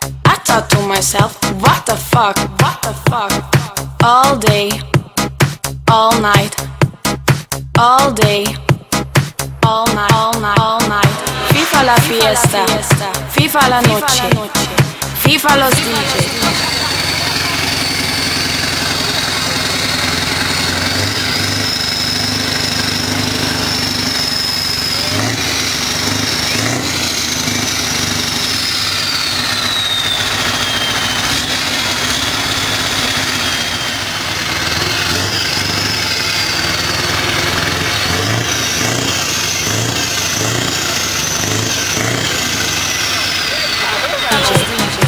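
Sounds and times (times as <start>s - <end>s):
diesel truck engine idling: 8.2s - 45.0s.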